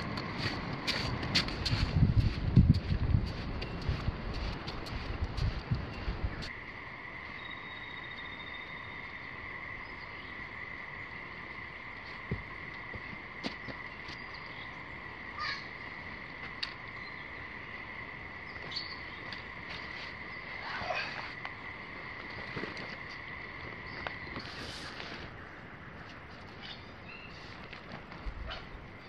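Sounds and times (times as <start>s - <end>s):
insects calling: 4.4s - 29.0s.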